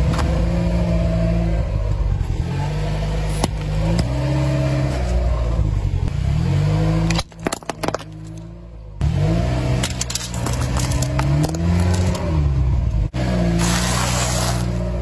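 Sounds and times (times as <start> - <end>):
car engine revving: 0.0 - 7.3, 8.3 - 15.0.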